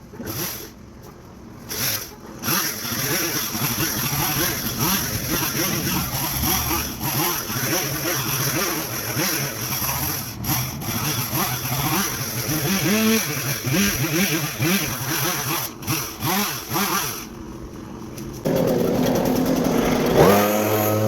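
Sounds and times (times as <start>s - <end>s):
chainsaw engine revving: 0.2s - 0.8s, 1.7s - 17.4s, 18.4s - 21.0s.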